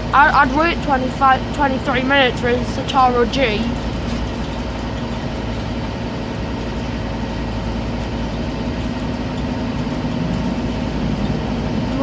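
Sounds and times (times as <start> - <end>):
diesel engine drone: 0.0 - 12.0
faint steady tones: 0.0 - 12.0
low road rumble: 0.0 - 12.0.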